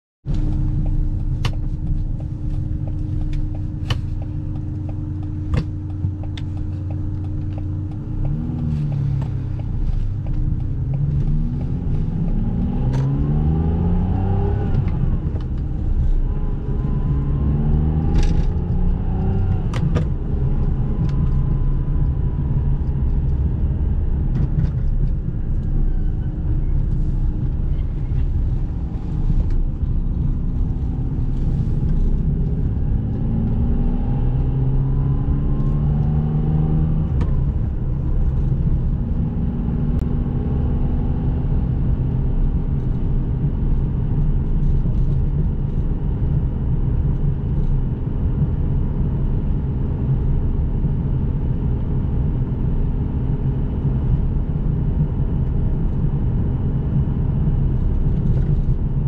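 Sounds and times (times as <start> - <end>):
car engine accelerating: 0.2 - 59.0.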